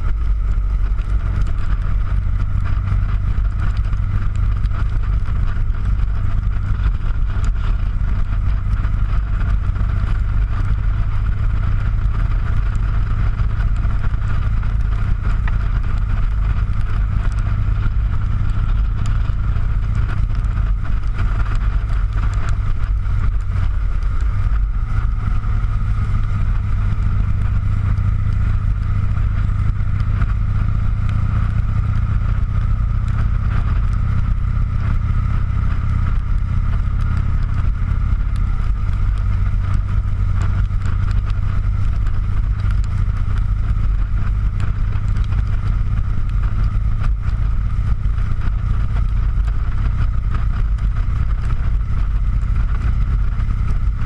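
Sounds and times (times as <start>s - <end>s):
motorcycle engine running: 0.0s - 54.0s
road noise: 0.0s - 54.0s
wind rush on microphone: 0.0s - 54.0s.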